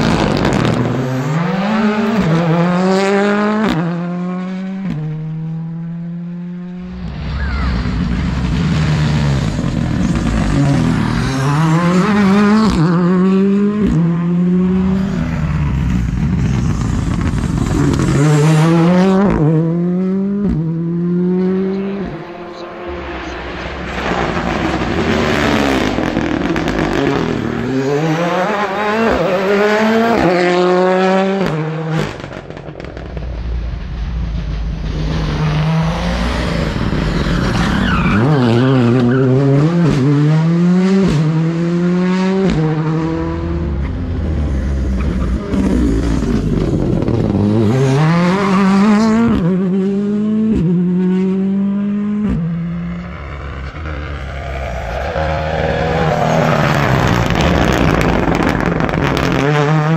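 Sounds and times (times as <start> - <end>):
rally cars accelerating: 0.0 - 59.9.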